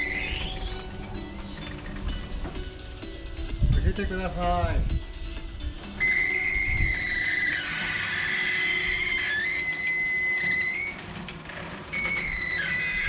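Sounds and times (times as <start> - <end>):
roller shutter squealing: 0.0 - 3.0, 5.2 - 13.0.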